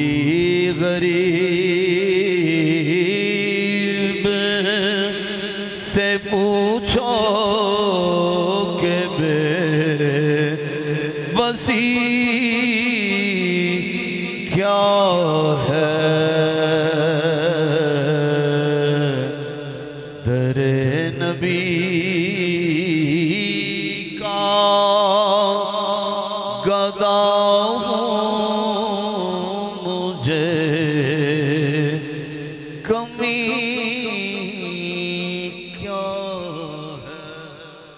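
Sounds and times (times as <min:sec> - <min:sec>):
man chanting: 0:00.0 - 0:37.9
man singing into a microphone: 0:00.0 - 0:37.9.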